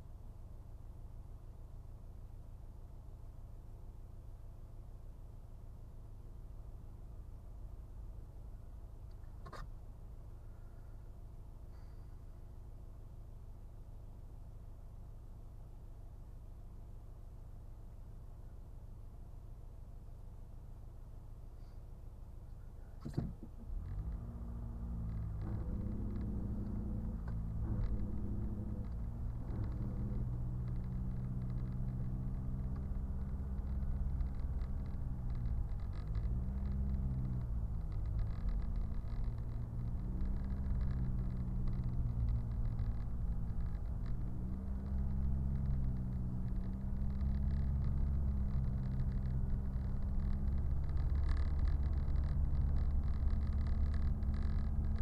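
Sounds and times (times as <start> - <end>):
car engine: 0.0 - 55.0
low road rumble: 0.0 - 55.0.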